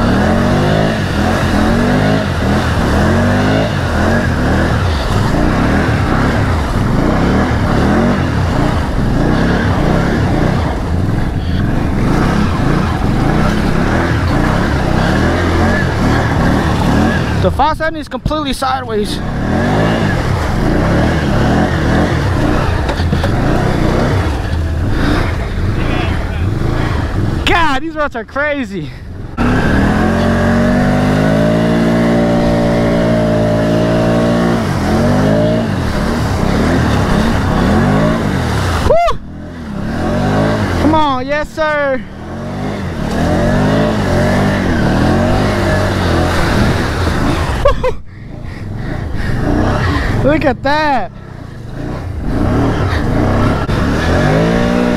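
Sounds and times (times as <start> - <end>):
atv engine revving in mud: 0.0 - 54.9.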